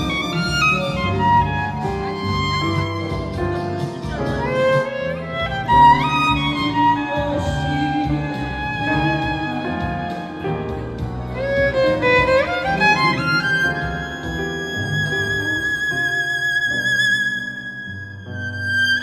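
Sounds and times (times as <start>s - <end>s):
lower accompaniment: 0.0s - 19.0s
violin melody: 0.0s - 19.0s.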